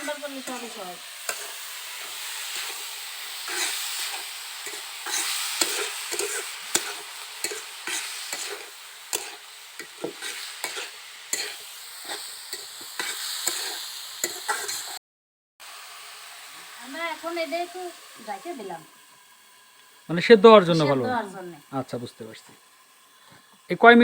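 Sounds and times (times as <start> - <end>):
frying sizzle: 0.0 - 15.0, 15.6 - 24.0.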